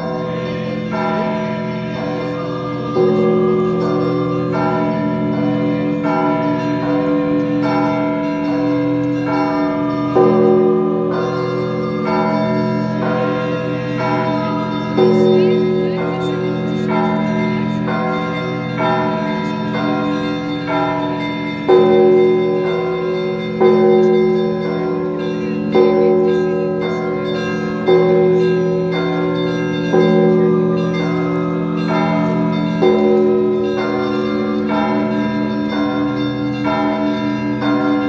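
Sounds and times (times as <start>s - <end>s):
small church bells ringing: 0.0s - 38.0s.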